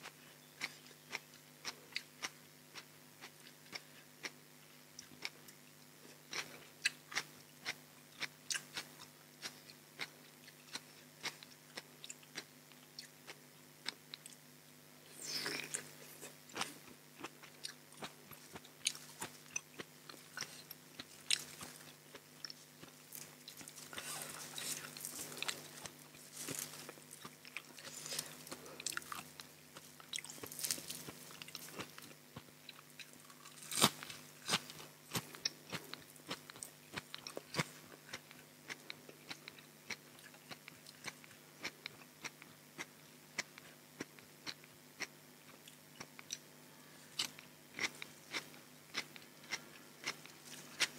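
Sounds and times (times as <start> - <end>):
person chewing crunchy vegetables: 0.0 - 14.4, 15.1 - 50.9.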